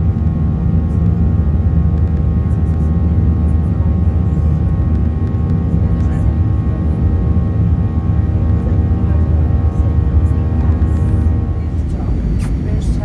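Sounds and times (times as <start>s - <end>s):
airliner engine drone: 0.0s - 13.0s
constant held tones: 0.0s - 13.0s.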